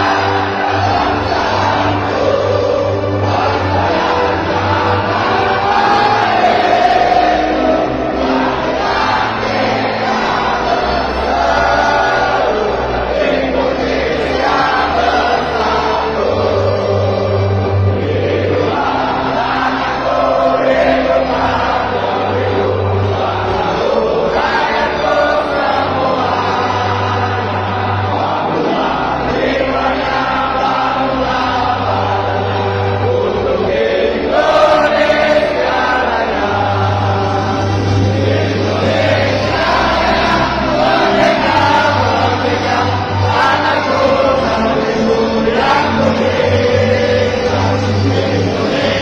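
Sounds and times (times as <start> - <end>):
choir singing: 0.0 - 49.0.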